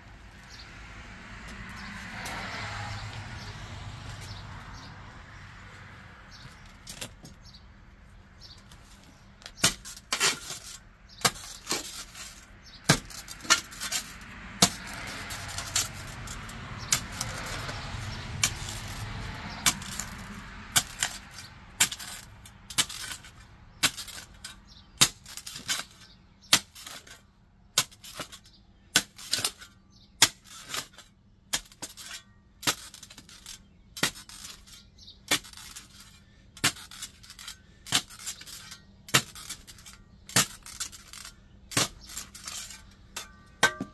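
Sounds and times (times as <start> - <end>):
spade clinking and scraping: 8.4 - 43.9.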